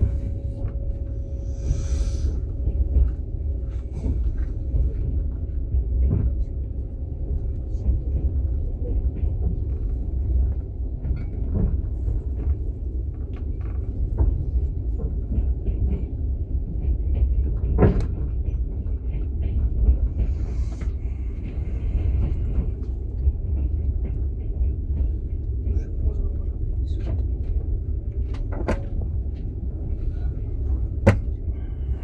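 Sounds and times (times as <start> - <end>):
train carriage rumble: 0.0 - 32.0.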